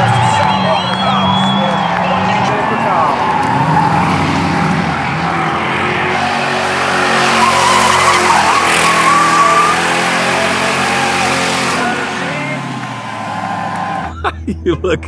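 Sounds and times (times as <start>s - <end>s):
tires skidding and squealing: 0.0s - 14.1s
race car engines roaring: 0.0s - 15.0s.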